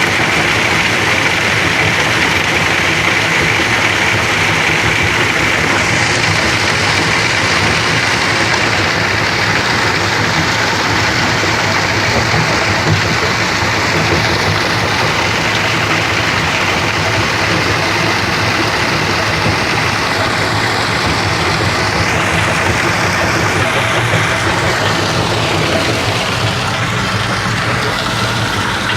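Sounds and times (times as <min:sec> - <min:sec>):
sand-grinding machine running: 0:00.0 - 0:28.9.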